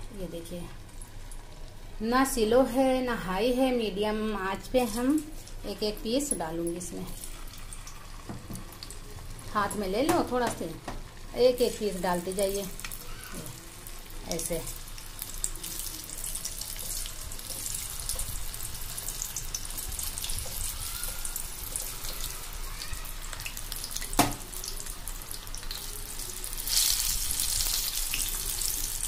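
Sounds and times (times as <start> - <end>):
deep-frying sizzle and crackle: 0.0 - 29.0.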